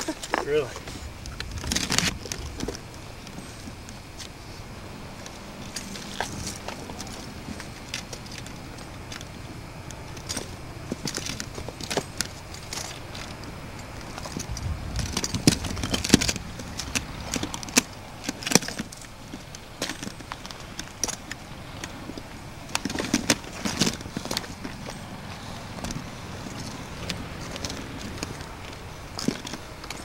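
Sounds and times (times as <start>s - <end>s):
footsteps on rocky trail: 0.0s - 30.0s.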